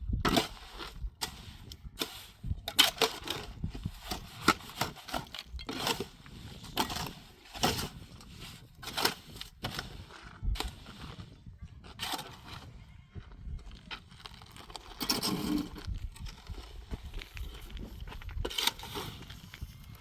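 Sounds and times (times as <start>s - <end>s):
scraping and crunching strokes: 0.0s - 20.0s.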